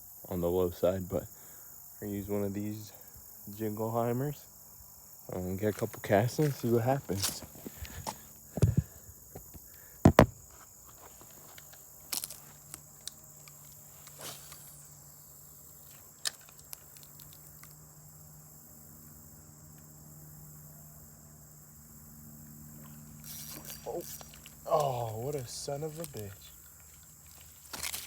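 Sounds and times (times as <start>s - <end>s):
faint steady background noise: 0.0s - 28.0s.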